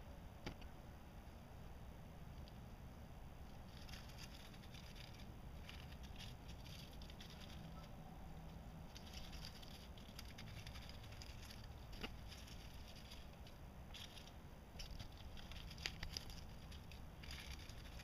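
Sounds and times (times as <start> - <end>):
dry leaves rustling: 3.4 - 18.0.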